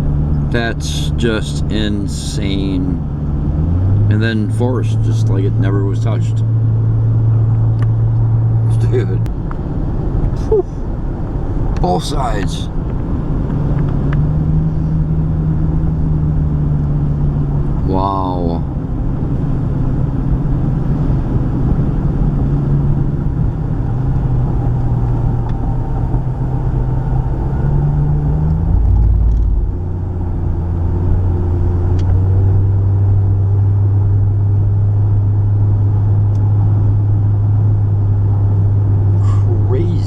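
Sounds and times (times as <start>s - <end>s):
car engine and tyre drone: 0.0s - 40.0s.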